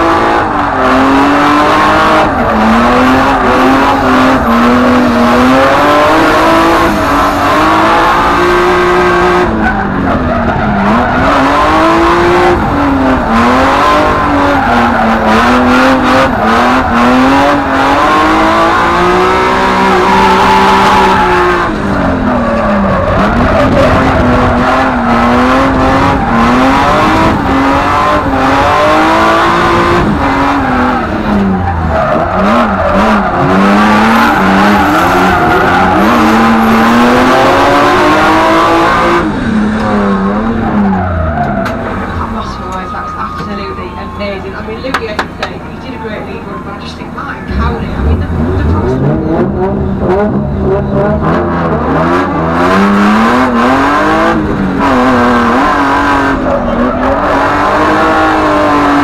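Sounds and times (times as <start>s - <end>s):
car engine revving hard: 0.0s - 59.0s
tyres screeching: 0.5s - 49.5s.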